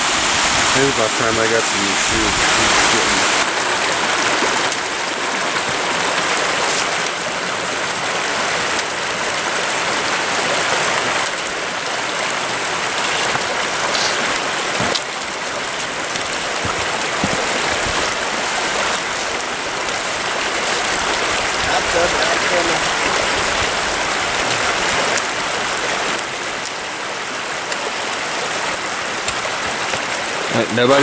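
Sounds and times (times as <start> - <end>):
creek rushing over stones: 0.0 - 31.0.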